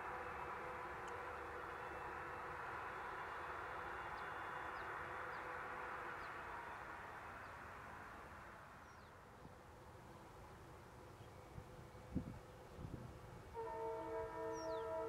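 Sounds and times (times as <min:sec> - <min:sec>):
train coaches rolling on track: 0:00.0 - 0:15.0.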